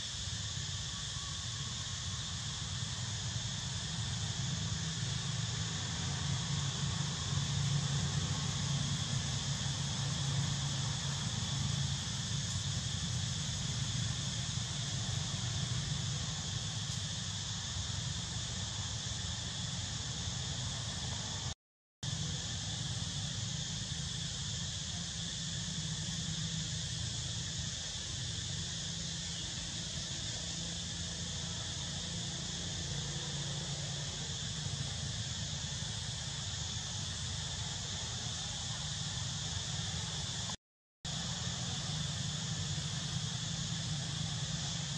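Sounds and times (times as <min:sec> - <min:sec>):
high insect-like hiss: 0:00.0 - 0:44.9.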